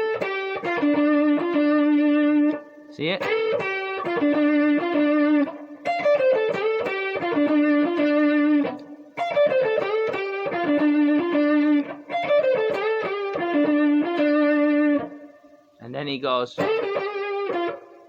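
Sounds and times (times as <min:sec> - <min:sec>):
electric guitar blues phrase: 0:00.0 - 0:18.0.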